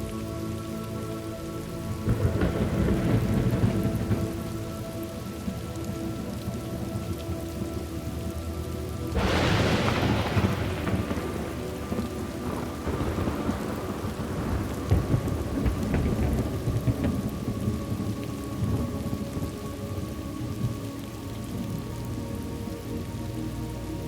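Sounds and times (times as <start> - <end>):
steady rain: 0.0 - 24.0
thunder rumbling: 0.0 - 24.0.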